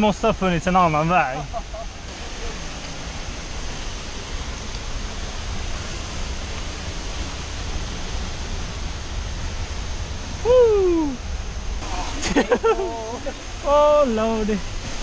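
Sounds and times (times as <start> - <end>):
waterfall rushing: 0.0 - 15.0
low rumble: 1.4 - 15.0.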